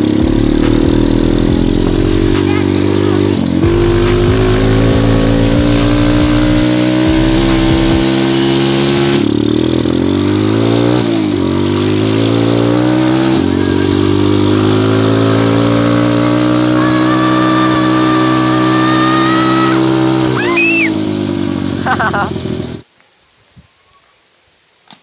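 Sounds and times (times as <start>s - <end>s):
motorbike engine revving: 0.0s - 22.9s.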